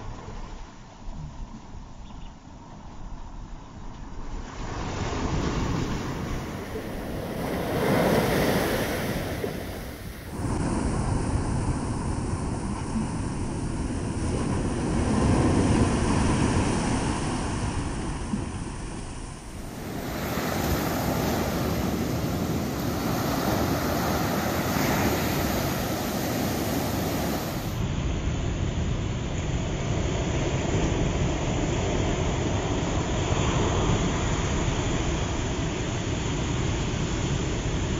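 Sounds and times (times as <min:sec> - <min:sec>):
wind buffeting microphone: 0:04.2 - 0:35.7
ocean surf breaking on beach: 0:04.2 - 0:37.9.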